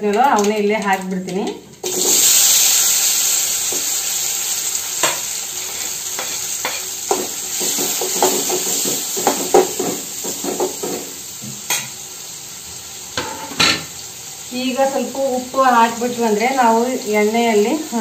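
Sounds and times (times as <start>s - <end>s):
vegetables sizzling in hot oil: 0.1s - 18.0s.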